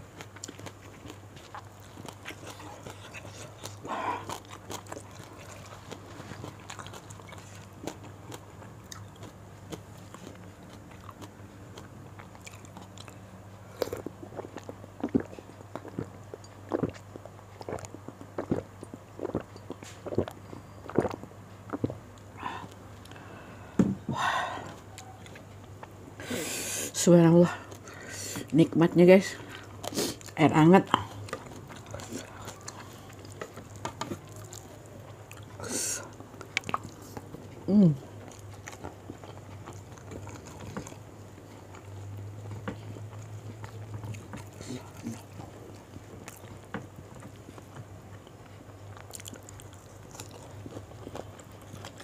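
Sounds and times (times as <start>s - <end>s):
chewing: 0.0s - 23.3s, 29.4s - 52.0s.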